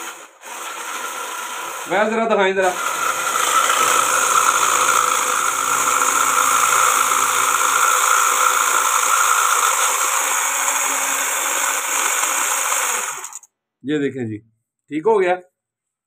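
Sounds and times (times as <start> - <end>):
hand blender motor whining: 0.0 - 13.5.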